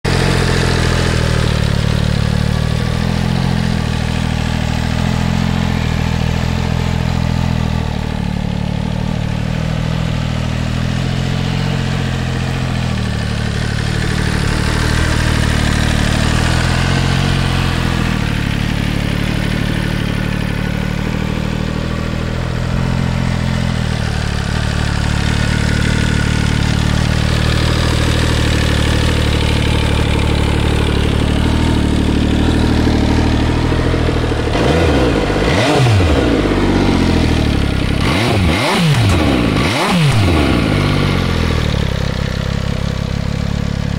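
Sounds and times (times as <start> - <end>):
motorcycle engine idling: 0.0 - 43.9.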